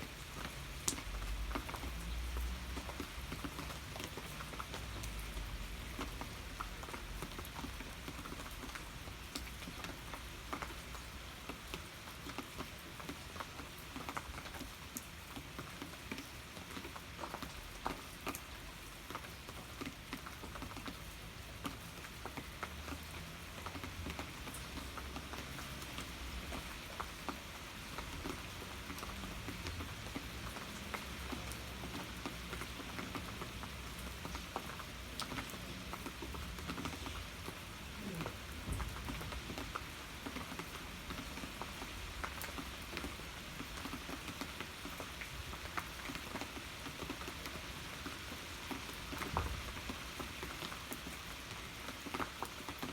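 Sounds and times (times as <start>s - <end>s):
rain falling: 0.0s - 52.9s
raindrops ticking on a surface: 0.0s - 52.9s.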